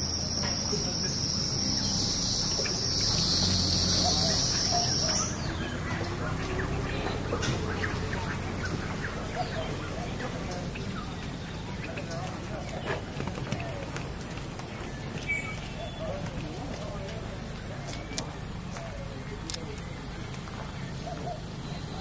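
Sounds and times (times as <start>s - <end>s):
bird chirps: 0.1s - 22.0s.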